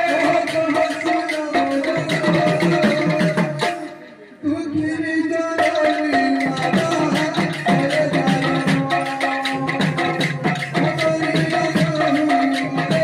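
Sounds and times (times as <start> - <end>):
hand drum beat: 0.0 - 3.9, 5.6 - 13.0
jingling percussion: 0.0 - 4.2, 5.2 - 13.0.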